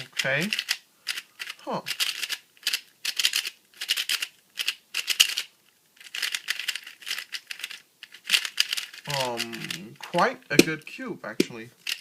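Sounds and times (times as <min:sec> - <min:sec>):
puzzle cube clicking: 0:00.1 - 0:10.8.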